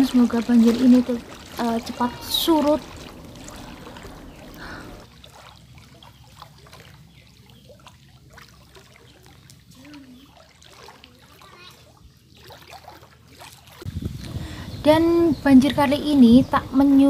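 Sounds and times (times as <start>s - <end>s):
small water splashes: 0.0s - 14.4s
water lapping and trickling: 0.0s - 17.0s.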